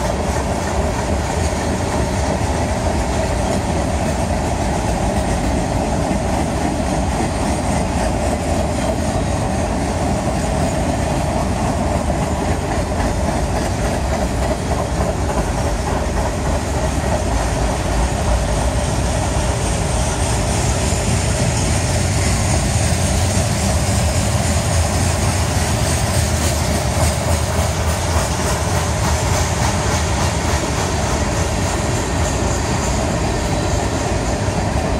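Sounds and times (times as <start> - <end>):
freight train rolling past: 0.0 - 34.9.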